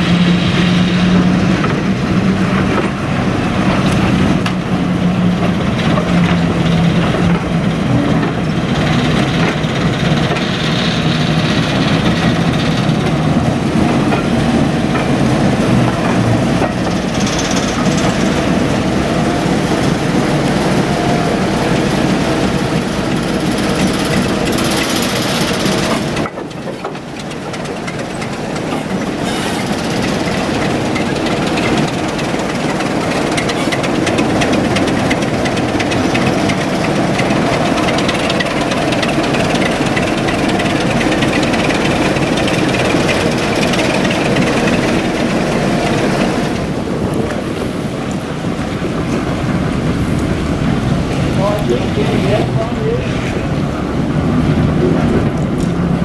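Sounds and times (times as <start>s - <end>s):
diesel locomotive engine running: 0.0s - 56.0s
train wheels clicking over rail joints: 0.0s - 56.0s.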